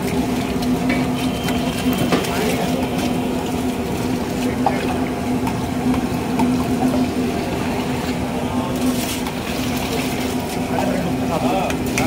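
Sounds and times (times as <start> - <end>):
constant low hum: 0.0 - 12.0
curry bubbling and sloshing: 0.0 - 12.0.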